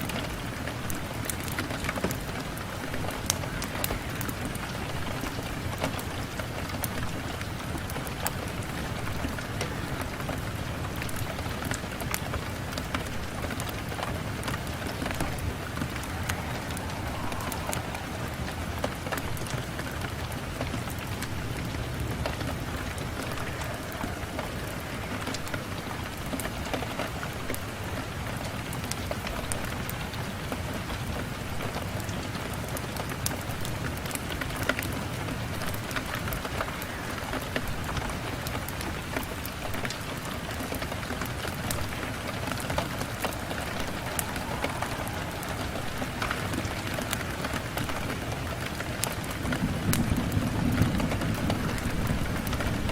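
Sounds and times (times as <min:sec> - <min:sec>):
rain on a window: 0:00.0 - 0:52.9
raindrop ticks: 0:00.0 - 0:52.9.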